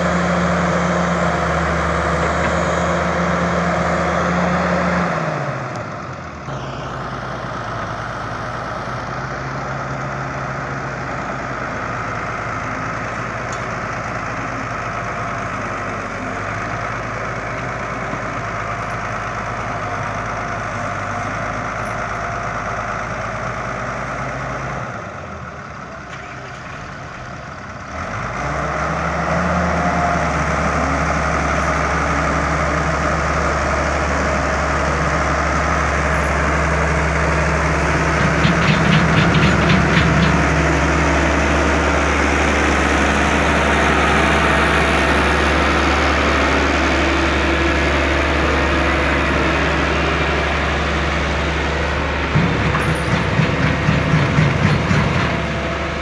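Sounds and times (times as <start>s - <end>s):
excavator diesel engine revving: 0.0s - 56.0s.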